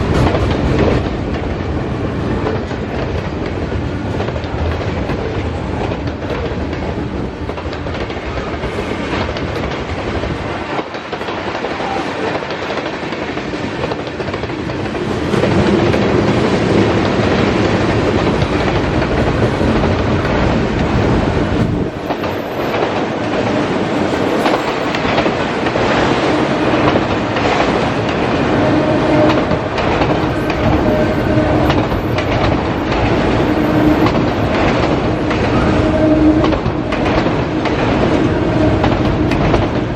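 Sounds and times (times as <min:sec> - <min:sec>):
wheels clattering over rail joints: 0:00.0 - 0:28.5, 0:29.1 - 0:39.9
freight train rolling past: 0:00.0 - 0:39.9.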